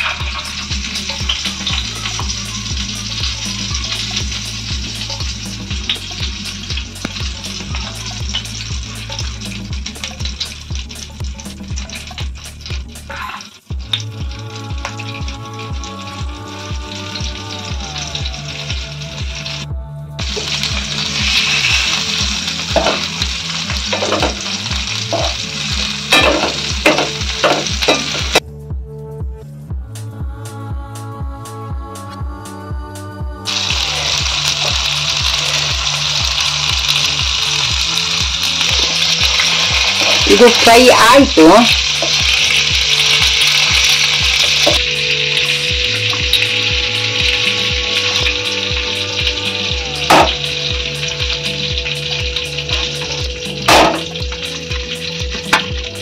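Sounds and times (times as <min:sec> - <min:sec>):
fish frying in oil sizzling: 0:00.0 - 0:28.4, 0:33.5 - 0:56.0
background music with steady beat: 0:00.0 - 0:56.0.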